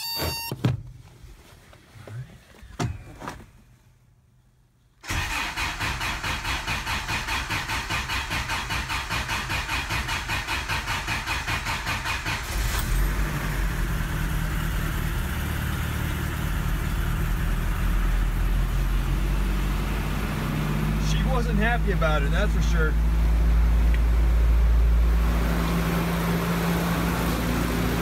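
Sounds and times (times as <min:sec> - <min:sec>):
car engine idling: 0:05.1 - 0:28.0.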